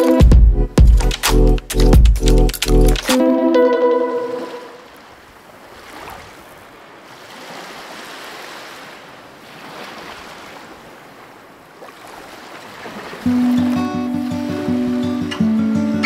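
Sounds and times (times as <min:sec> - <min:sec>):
ocean waves washing ashore: 0:03.0 - 0:16.0.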